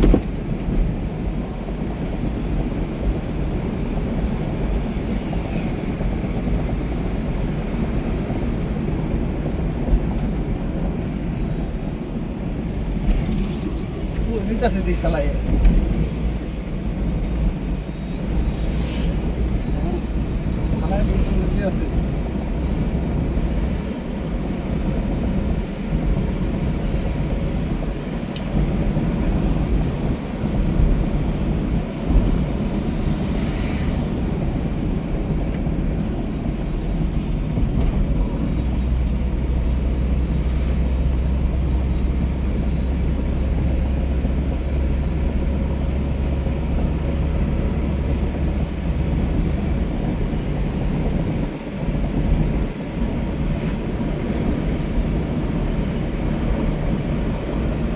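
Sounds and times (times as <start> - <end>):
wind noise on microphone: 0.0 - 14.3, 22.0 - 57.9
low vehicle rumble: 0.0 - 57.9.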